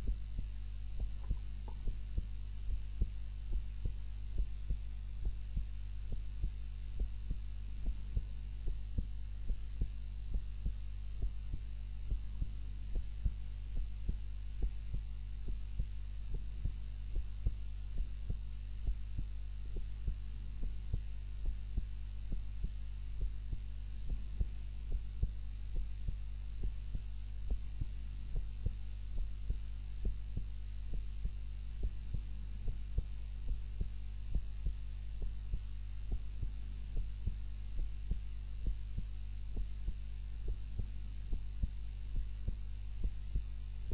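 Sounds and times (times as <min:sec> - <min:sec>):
heartbeat thumps: 0:00.0 - 0:43.9
steady low hum: 0:00.0 - 0:43.9.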